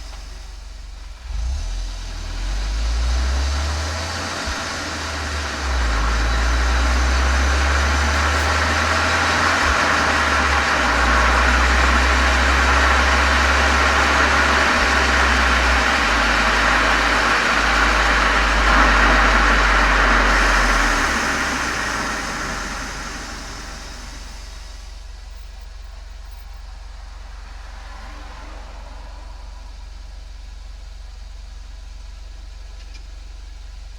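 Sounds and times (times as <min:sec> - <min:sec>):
car exhaust deep rumble: 0:00.0 - 0:33.9.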